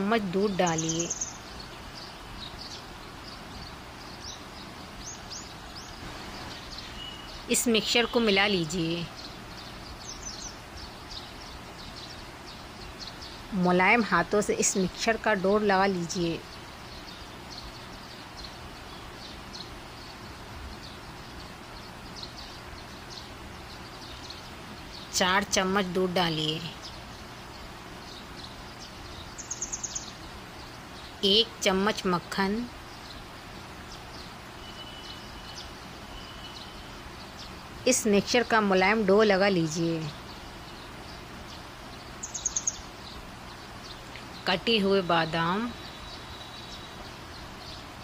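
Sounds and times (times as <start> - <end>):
faint rising bird chirps: 0.0 - 14.0, 16.1 - 38.6, 39.3 - 48.0
steady background hiss: 0.0 - 48.0.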